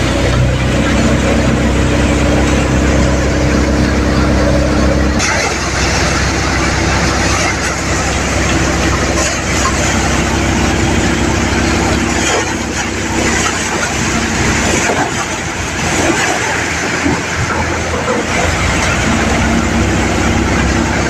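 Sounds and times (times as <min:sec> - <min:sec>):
tractor engine and thresher humming: 0:00.0 - 0:21.0.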